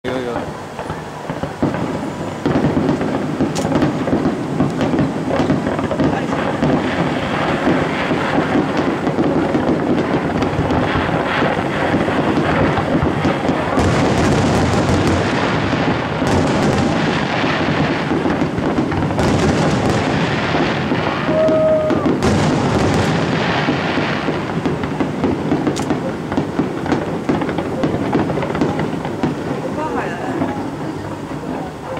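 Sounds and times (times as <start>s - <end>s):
fireworks booming and crackling: 0.0s - 31.9s.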